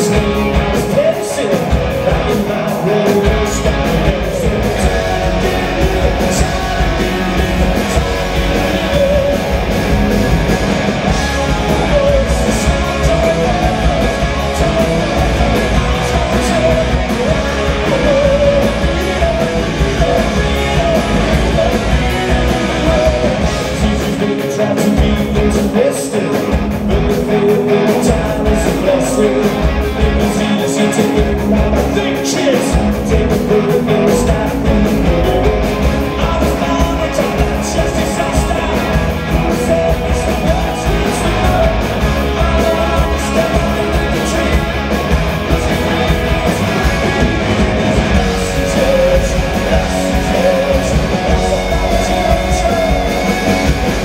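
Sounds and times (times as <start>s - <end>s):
bass guitar: 0.0s - 54.0s
drums: 0.0s - 54.0s
electric guitar: 0.0s - 54.0s
man singing: 0.0s - 54.0s.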